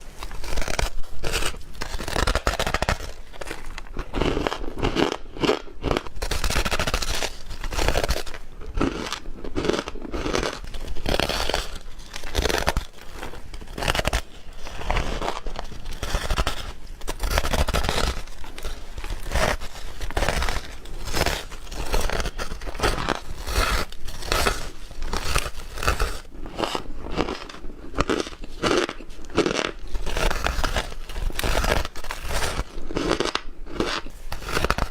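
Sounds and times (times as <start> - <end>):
person chewing ice: 0.0 - 34.9.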